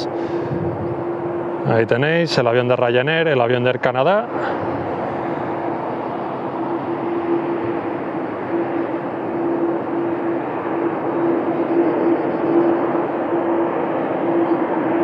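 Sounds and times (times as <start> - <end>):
distant jet engines roaring: 0.0 - 15.0.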